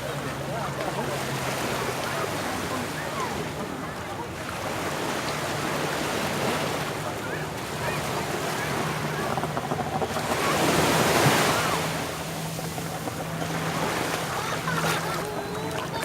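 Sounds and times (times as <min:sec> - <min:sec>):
sea waves breaking on beach: 0:00.0 - 0:16.0.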